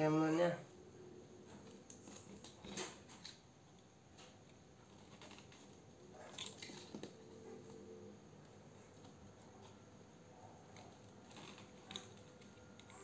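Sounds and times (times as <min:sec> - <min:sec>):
faint clicks and rustles: 0:00.9 - 0:13.0.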